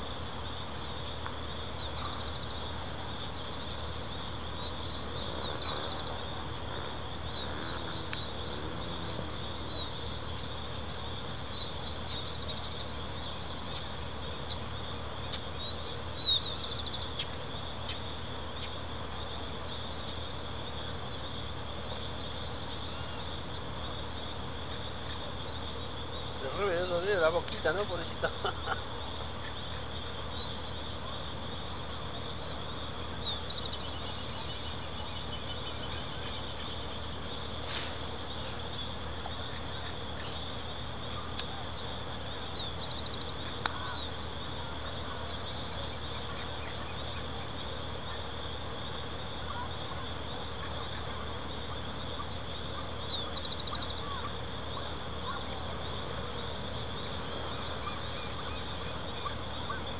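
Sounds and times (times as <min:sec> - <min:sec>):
outdoor background drone: 0:00.0 - 0:59.9.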